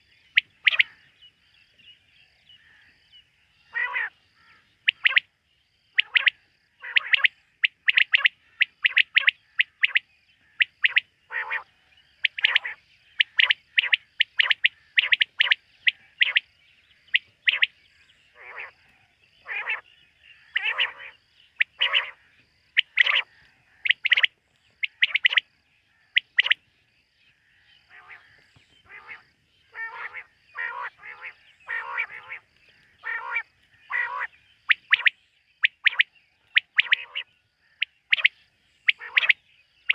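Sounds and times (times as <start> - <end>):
quail calling: 0.0 - 1.1, 3.7 - 5.3, 5.9 - 16.5, 17.1 - 25.4, 26.0 - 26.6, 27.9 - 39.9.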